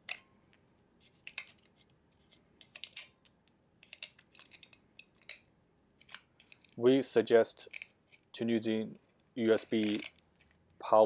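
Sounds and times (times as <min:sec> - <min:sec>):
batteries clicking and scraping: 0:01.0 - 0:06.8, 0:07.6 - 0:10.8.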